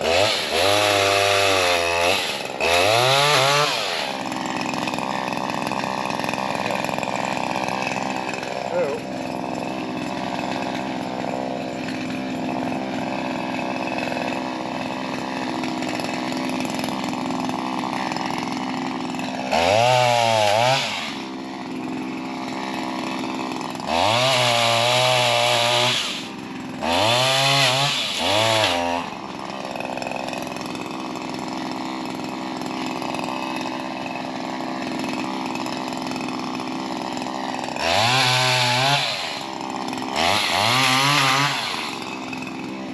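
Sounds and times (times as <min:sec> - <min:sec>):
two-stroke engine revving: 0:00.0 - 0:42.9.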